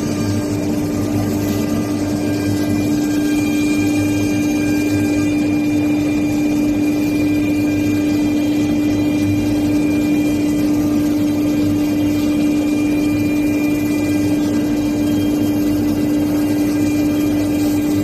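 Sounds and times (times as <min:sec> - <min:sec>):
router spindle running: 0:00.0 - 0:18.0.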